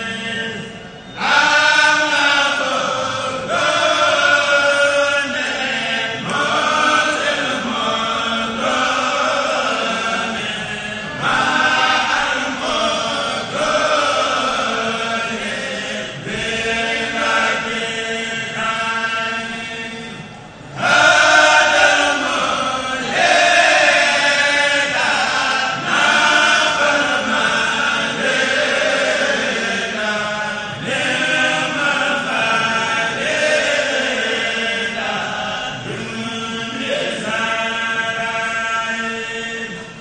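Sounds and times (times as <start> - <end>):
male choir chanting in unison: 0.0 - 40.0.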